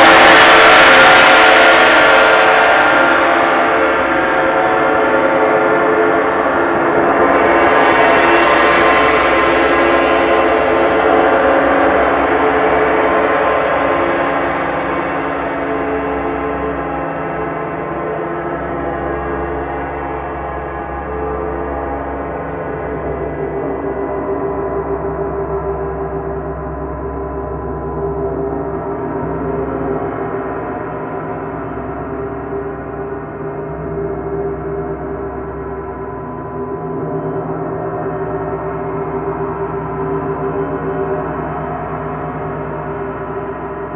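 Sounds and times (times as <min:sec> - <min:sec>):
gongs ringing: 0:00.0 - 0:43.9.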